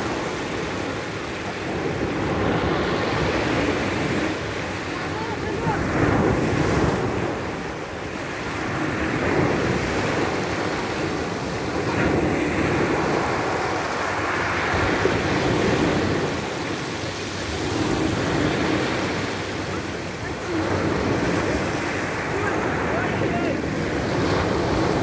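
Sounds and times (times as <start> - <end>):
waves washing over pebbles: 0.0 - 25.0.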